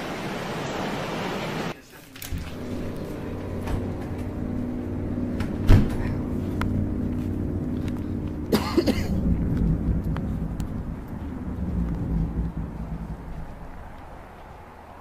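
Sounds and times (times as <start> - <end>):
low droning hum: 2.3 - 15.0.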